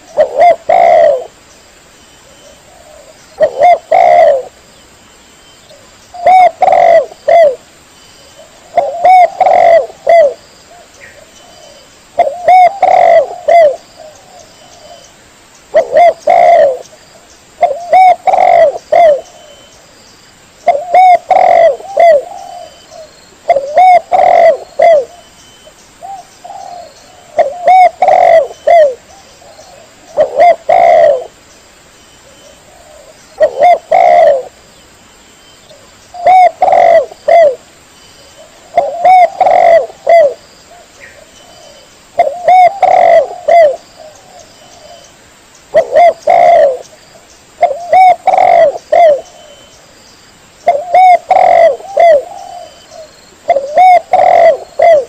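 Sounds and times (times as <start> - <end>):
dove cooing: 0.0 - 1.4, 2.2 - 4.6, 5.7 - 7.6, 8.4 - 15.1, 15.7 - 16.9, 17.6 - 19.7, 20.6 - 25.3, 26.0 - 31.4, 32.2 - 34.6, 35.7 - 37.6, 38.4 - 45.1, 45.7 - 47.0, 47.6 - 49.7, 50.6 - 55.0.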